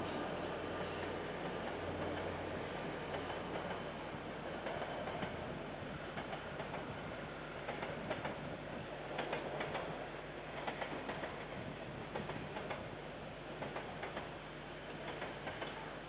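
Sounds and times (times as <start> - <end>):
distant train rumbling hiss: 0.0 - 16.0
train wheels clicking over rail joints: 0.0 - 16.0.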